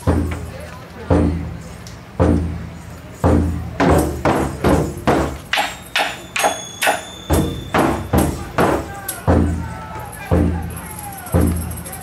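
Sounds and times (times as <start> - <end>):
taiko drums struck with sticks: 0.0 - 11.8.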